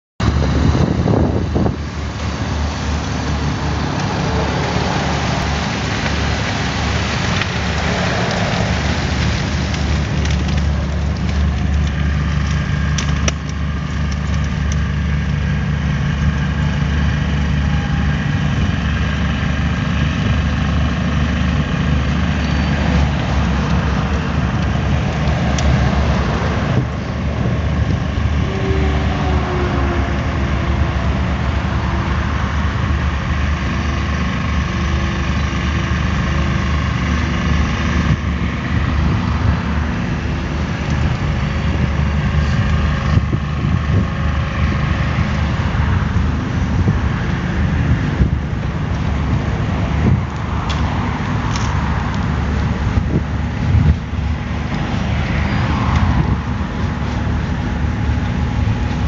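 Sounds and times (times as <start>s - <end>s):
diesel engine running: 0.2s - 59.0s
gravel pouring: 0.4s - 59.0s.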